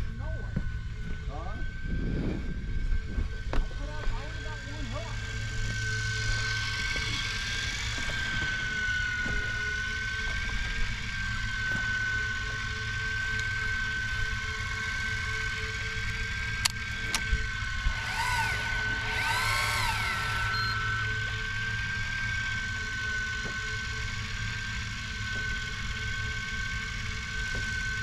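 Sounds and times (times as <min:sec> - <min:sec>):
fishing reel motor whine: 0:00.0 - 0:28.0.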